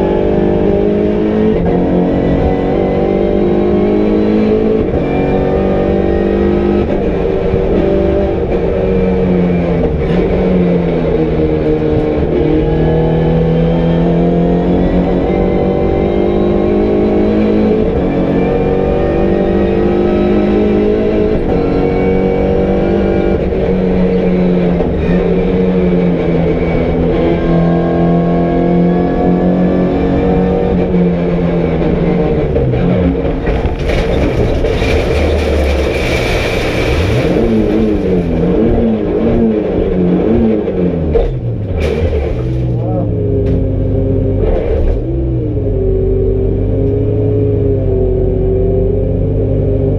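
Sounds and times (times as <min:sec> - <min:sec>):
race car engine revving: 0:00.0 - 0:49.9.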